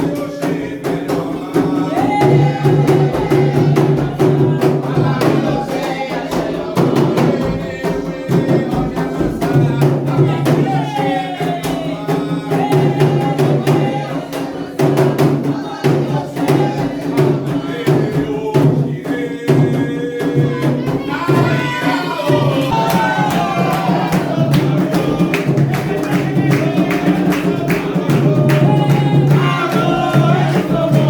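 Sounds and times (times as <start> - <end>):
rapid hand drum rhythm: 0.0 - 31.0
voices singing a chant: 0.0 - 31.0.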